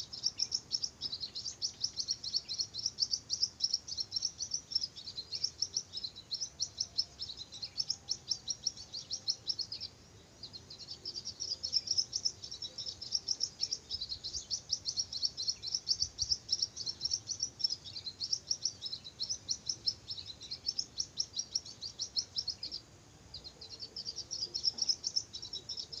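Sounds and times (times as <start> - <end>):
bird chirping rapidly: 0.0 - 26.0.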